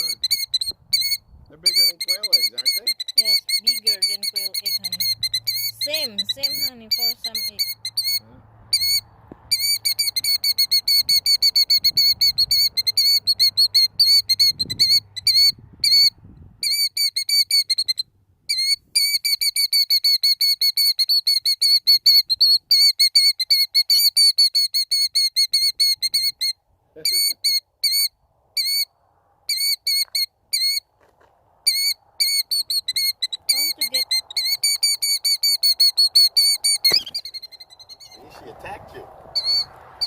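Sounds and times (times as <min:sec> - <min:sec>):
killdeer alarm call: 0:00.0 - 0:28.9, 0:29.5 - 0:30.9, 0:31.6 - 0:38.4, 0:39.4 - 0:39.7.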